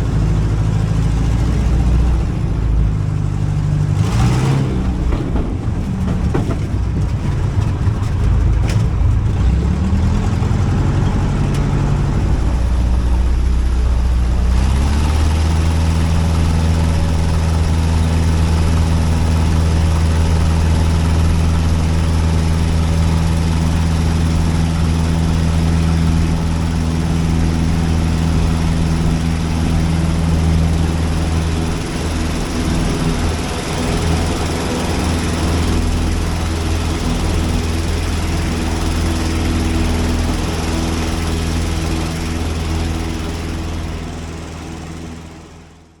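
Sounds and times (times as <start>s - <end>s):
propeller plane engine running: 0.0s - 46.0s.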